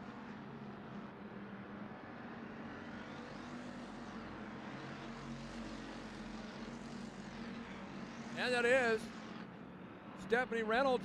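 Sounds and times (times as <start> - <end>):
race car engines droning: 0.1 - 11.0.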